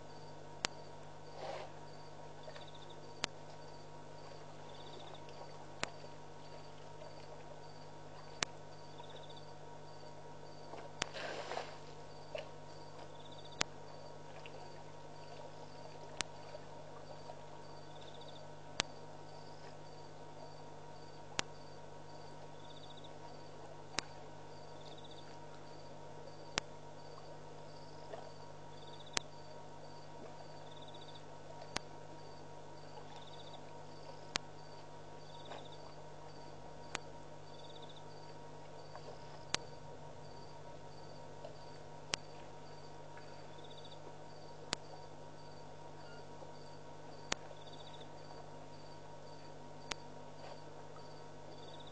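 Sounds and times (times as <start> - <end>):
crickets chirping: 0.0 - 51.9
low electrical hum: 0.0 - 51.9.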